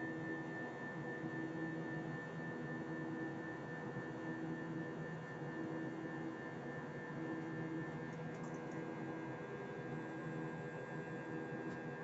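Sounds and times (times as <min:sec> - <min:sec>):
jet engines droning in cabin: 0:00.0 - 0:12.0.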